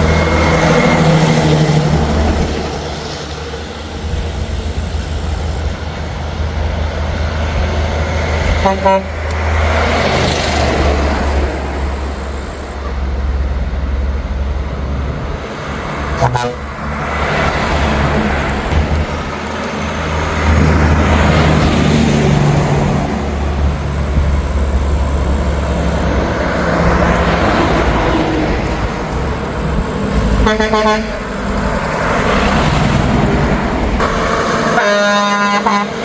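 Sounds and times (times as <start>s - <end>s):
road noise: 0.0s - 36.0s
trucks driving past: 0.0s - 36.0s.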